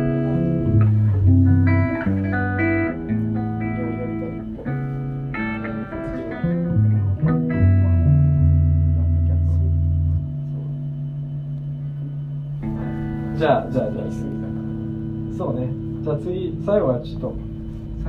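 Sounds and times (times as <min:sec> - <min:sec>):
bass guitar notes: 0:00.0 - 0:18.0
electric guitar chords: 0:00.0 - 0:18.0.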